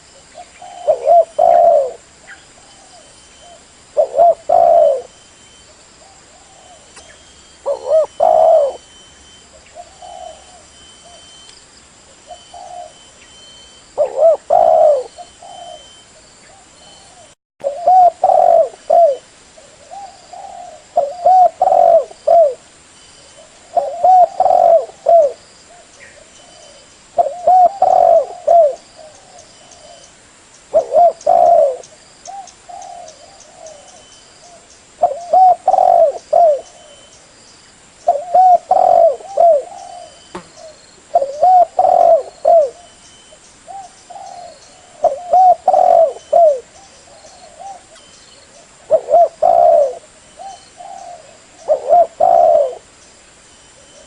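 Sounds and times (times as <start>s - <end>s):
dove cooing: 0.0s - 11.3s, 12.2s - 13.1s, 14.0s - 22.6s, 23.2s - 30.1s, 30.7s - 37.2s, 38.1s - 52.9s.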